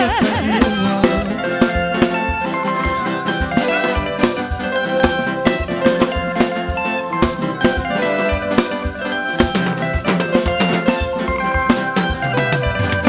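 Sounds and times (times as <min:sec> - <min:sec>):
drum kit steady beat: 0:00.0 - 0:13.0
electric guitars: 0:00.0 - 0:13.0
keyboard: 0:00.0 - 0:13.0.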